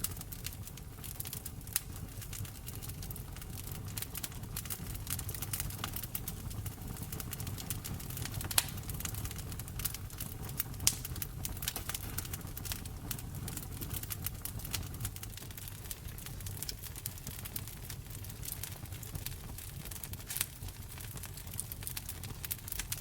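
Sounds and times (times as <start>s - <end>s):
low rumble of fire: 0.0s - 23.0s
wood fire crackling: 0.0s - 23.0s.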